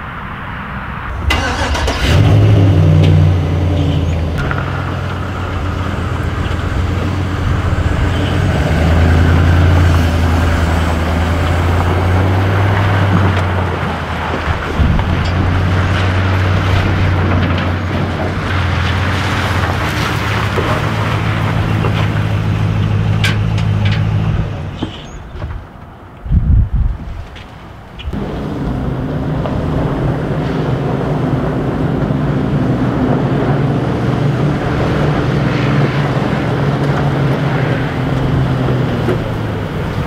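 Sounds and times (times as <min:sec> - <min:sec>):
truck engine droning: 0:00.0 - 0:26.2, 0:27.6 - 0:40.0.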